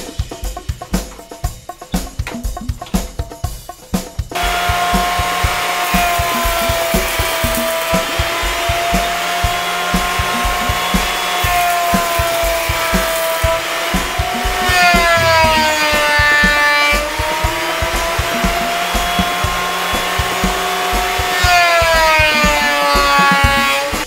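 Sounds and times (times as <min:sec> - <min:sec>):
background music with a beat: 0:00.0 - 0:24.0
thickness planer whining: 0:04.4 - 0:24.0.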